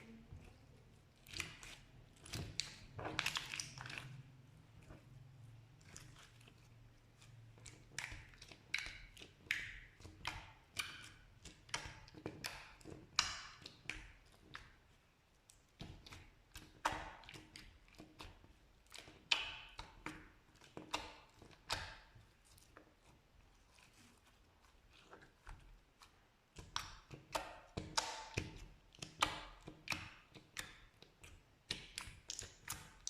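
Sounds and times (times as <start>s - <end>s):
slime popping sticky: 1.0s - 5.0s, 5.8s - 33.0s.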